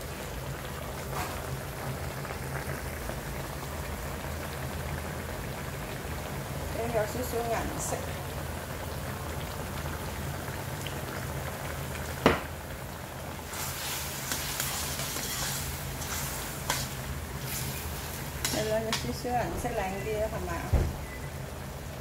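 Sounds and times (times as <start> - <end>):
broth bubbling in a wok: 0.0 - 22.0.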